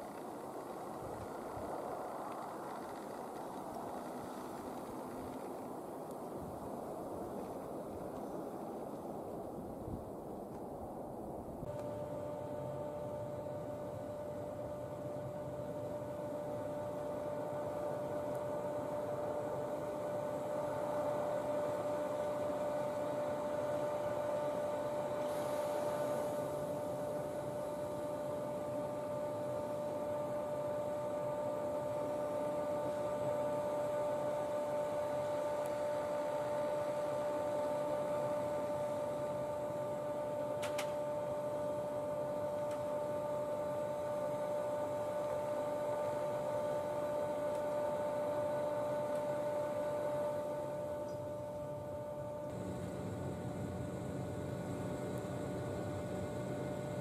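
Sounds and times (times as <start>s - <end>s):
electrical hum from parked trains: 0.0s - 57.0s.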